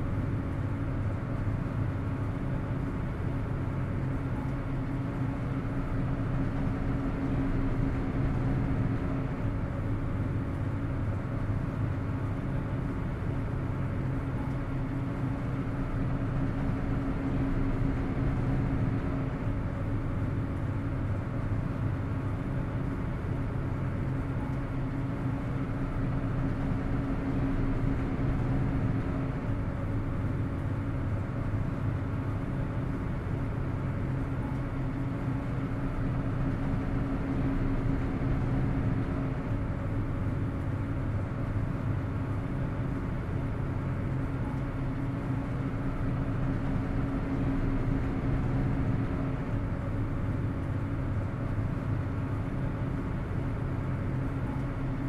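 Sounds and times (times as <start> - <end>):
ferry engines droning: 0.0 - 55.0.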